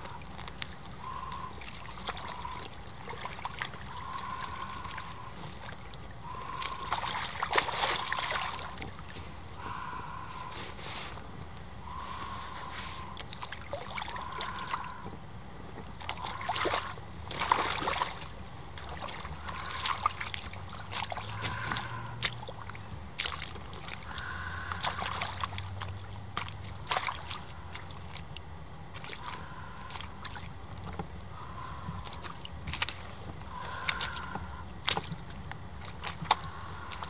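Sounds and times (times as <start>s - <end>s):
boots squelching in mud: 0.0s - 11.2s, 15.8s - 37.0s.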